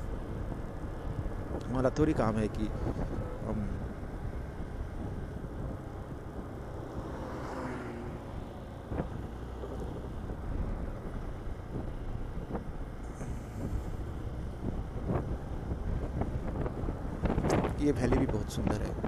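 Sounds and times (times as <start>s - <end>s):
motorcycle running: 0.0s - 19.0s
wind rushing over microphone: 0.0s - 19.0s.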